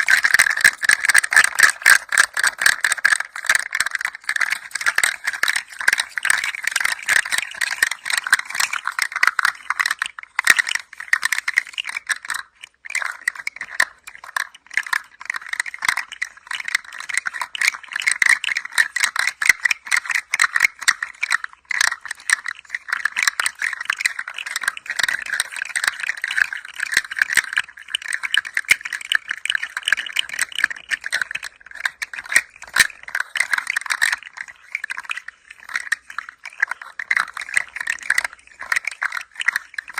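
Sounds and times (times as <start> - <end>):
toy rattling: 0.0 - 39.9.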